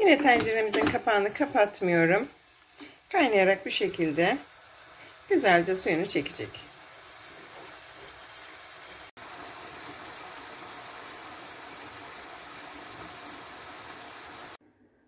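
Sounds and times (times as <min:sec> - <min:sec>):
sauce simmering in a pan: 0:01.1 - 0:14.6.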